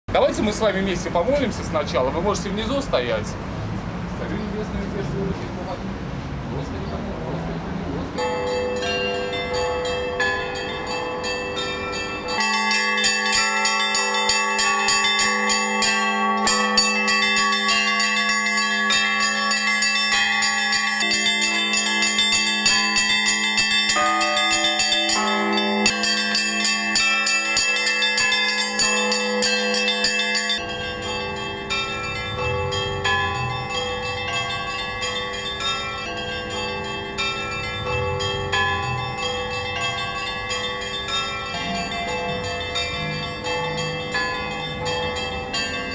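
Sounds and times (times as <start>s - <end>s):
church bells pealing: 7.8s - 45.9s
deep bell tone: 8.2s - 45.9s.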